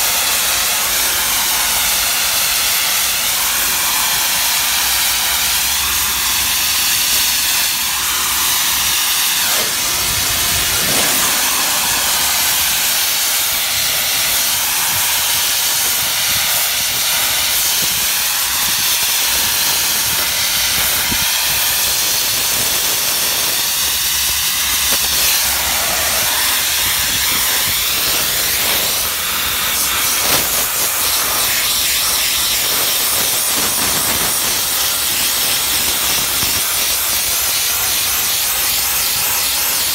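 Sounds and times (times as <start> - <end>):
steam jetting with loud hiss: 0.0 - 39.9.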